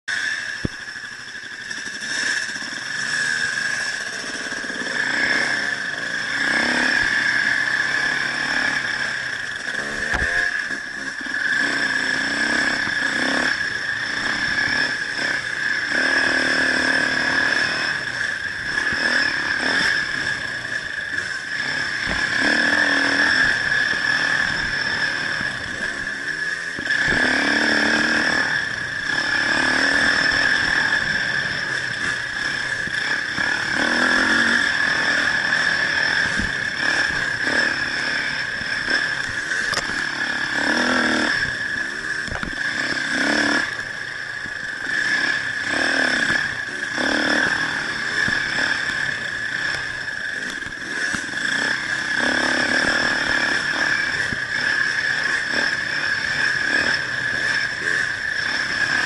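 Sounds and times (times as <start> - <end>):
high-pitched whine: 0.1 - 59.0
vehicle engine revving: 0.1 - 59.0.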